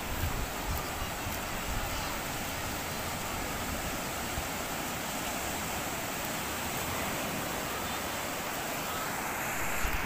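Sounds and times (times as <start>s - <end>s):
ocean surf breaking: 0.0s - 10.0s.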